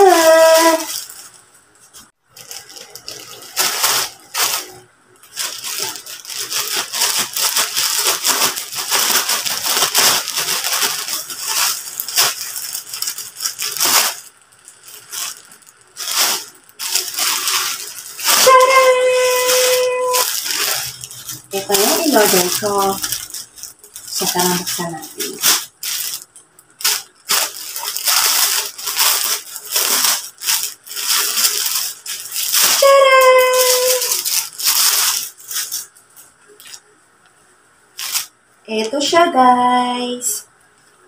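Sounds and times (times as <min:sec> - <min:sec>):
plastic pouch crinkling: 0:00.0 - 0:36.8, 0:38.0 - 0:38.3.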